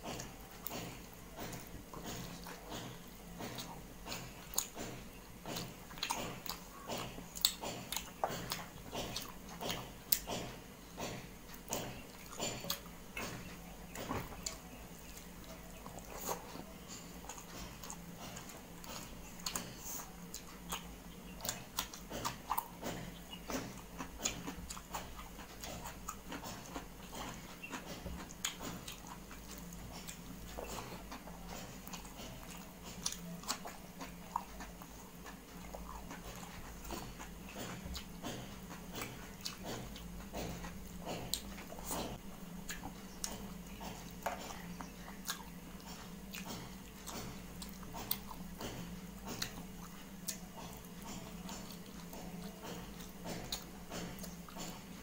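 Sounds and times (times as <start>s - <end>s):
person chewing food: 0.0s - 55.0s
steady low hum: 0.0s - 55.0s.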